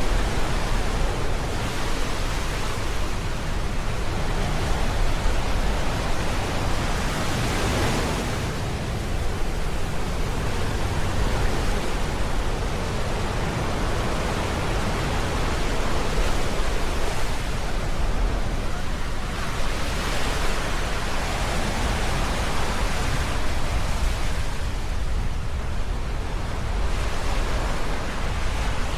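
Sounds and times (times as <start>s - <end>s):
sea waves breaking on shore: 0.0s - 28.9s.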